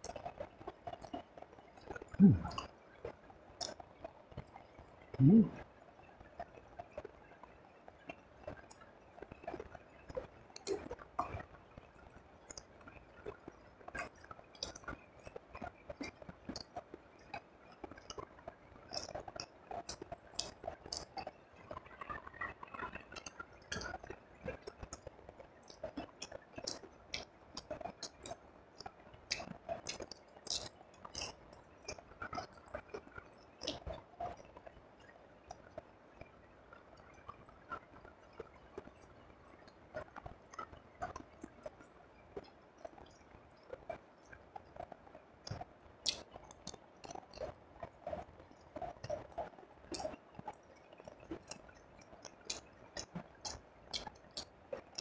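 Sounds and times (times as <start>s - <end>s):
close chewing with mouth clicks: 0.0s - 7.1s, 7.9s - 55.0s.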